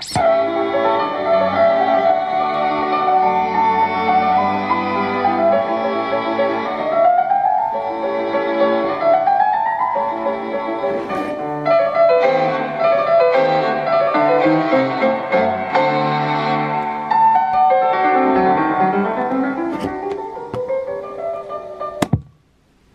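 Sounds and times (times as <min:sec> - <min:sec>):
instrumental music with piano: 0:00.0 - 0:22.6.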